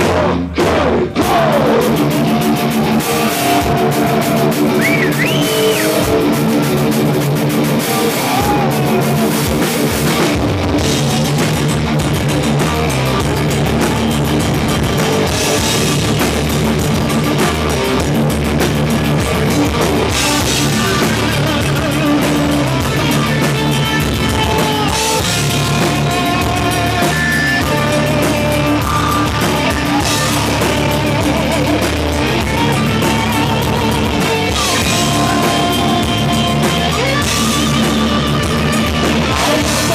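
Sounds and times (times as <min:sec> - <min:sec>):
distorted electric guitars: 0:00.0 - 0:39.9
pounding drum kit: 0:00.0 - 0:39.9.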